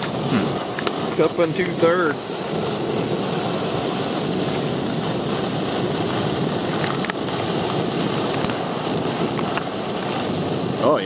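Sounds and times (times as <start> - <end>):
camp stove burner hissing: 0.0 - 11.0.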